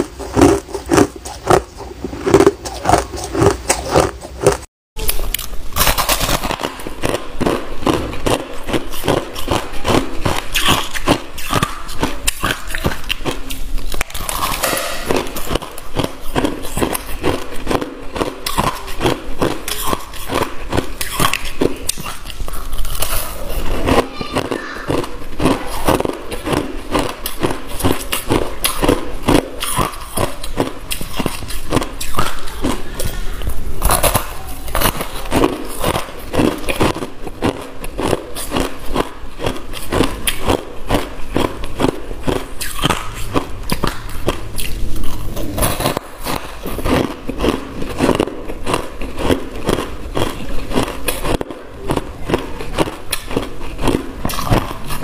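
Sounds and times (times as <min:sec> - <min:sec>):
chewing crushed ice: 0:00.0 - 0:55.0.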